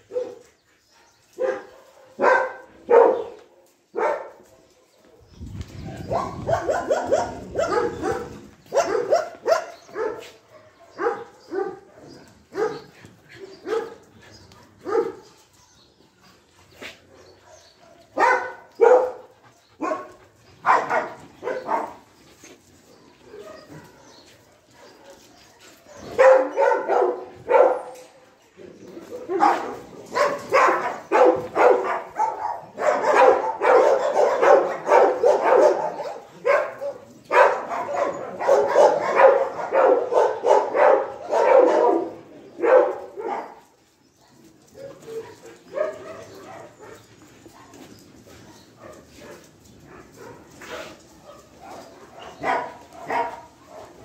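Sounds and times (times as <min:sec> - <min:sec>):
dogs barking: 0:00.0 - 0:04.7, 0:05.8 - 0:15.3, 0:16.8 - 0:22.1, 0:23.2 - 0:28.0, 0:28.7 - 0:54.0.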